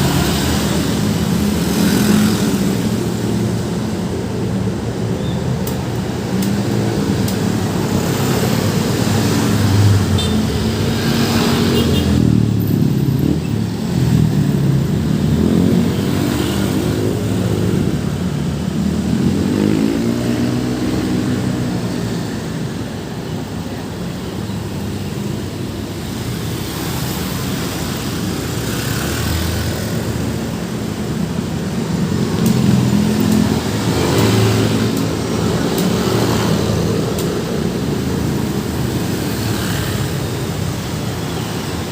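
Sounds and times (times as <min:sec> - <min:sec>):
road traffic passing: 0:00.0 - 0:41.9.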